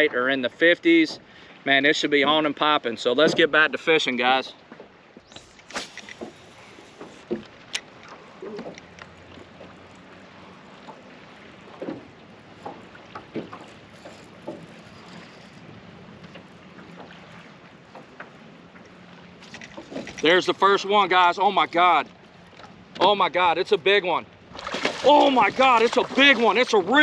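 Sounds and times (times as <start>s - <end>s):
boat engine hum: 0.0s - 27.0s
water noise: 0.0s - 27.0s.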